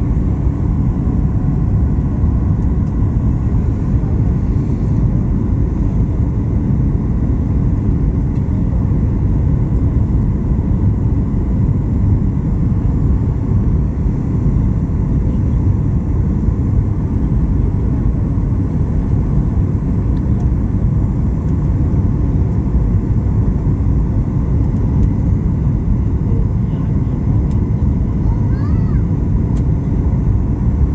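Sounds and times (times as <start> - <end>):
airliner engines rumbling: 0.0 - 30.9.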